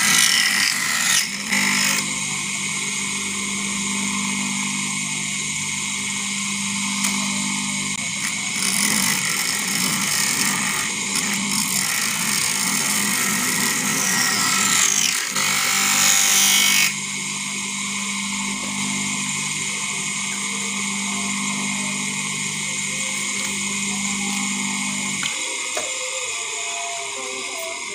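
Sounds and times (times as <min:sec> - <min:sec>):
cutting disc grinding plastic pipe: 0:00.0 - 0:27.9
electric motor humming: 0:00.0 - 0:27.9.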